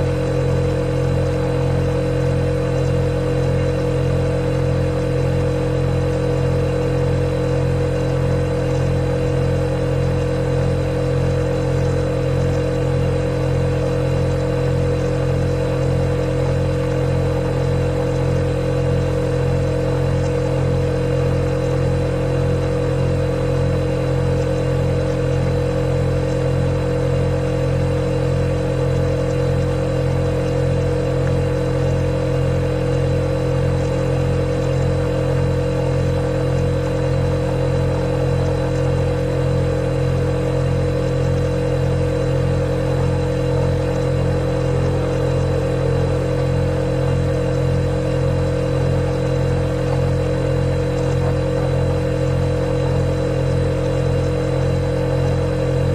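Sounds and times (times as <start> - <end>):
refrigerator compressor hum: 0.0 - 55.9.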